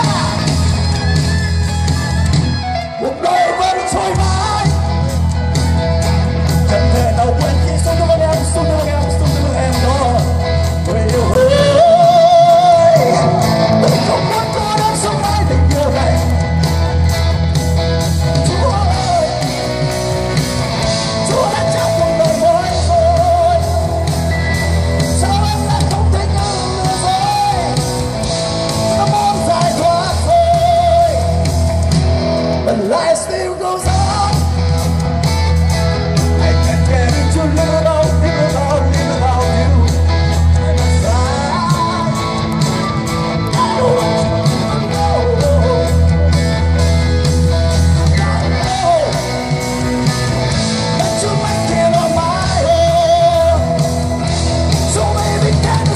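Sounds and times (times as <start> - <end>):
person singing: 0.0 - 2.1, 2.8 - 5.2, 6.4 - 16.6, 18.3 - 31.7, 32.6 - 35.4, 36.1 - 47.0, 47.7 - 55.9
live rock band playing: 0.0 - 55.9.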